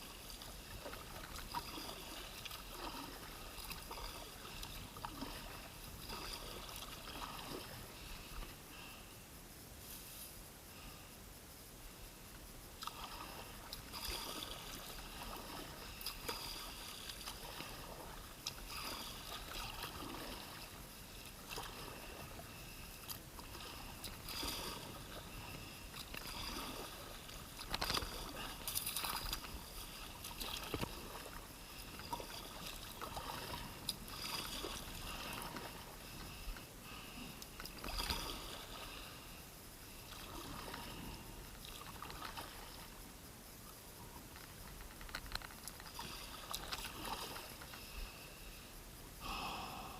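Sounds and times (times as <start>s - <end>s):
kayak paddle splashing water: 0.0s - 8.6s, 12.8s - 39.2s, 40.0s - 43.0s, 45.7s - 48.2s.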